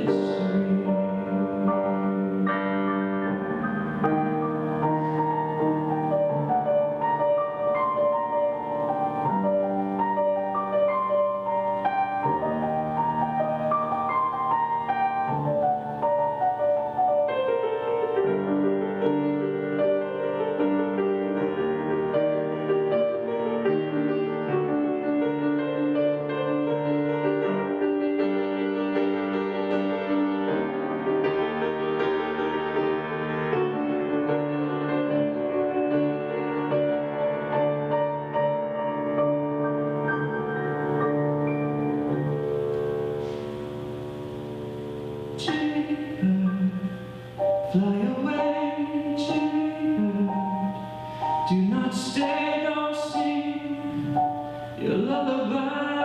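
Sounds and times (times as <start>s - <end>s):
slow piano melody: 0.0s - 56.0s.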